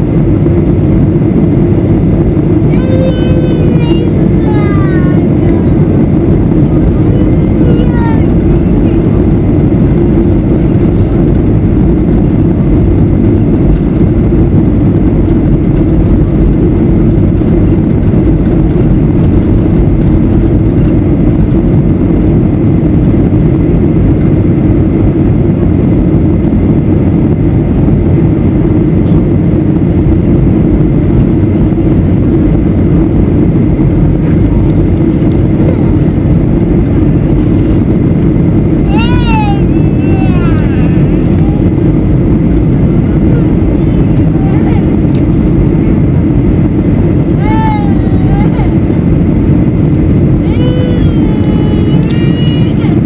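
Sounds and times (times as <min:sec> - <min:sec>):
airplane cabin rumble: 0:00.0 - 0:53.0.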